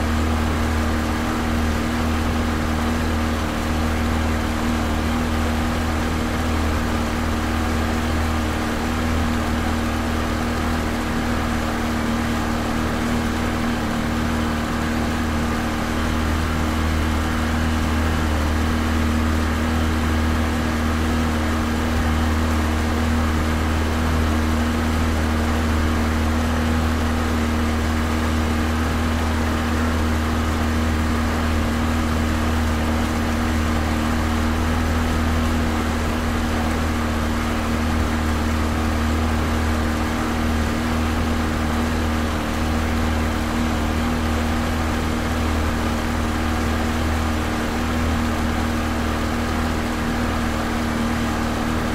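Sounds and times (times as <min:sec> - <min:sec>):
outboard motor droning: 0:00.0 - 0:51.9
water and wind noise: 0:00.0 - 0:51.9.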